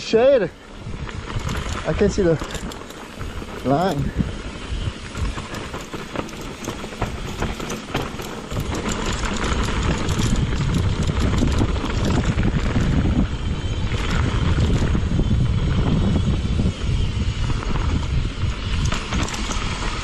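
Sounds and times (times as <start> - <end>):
bike rattling and clattering: 0.0 - 20.0
wind buffeting microphone: 0.6 - 20.0.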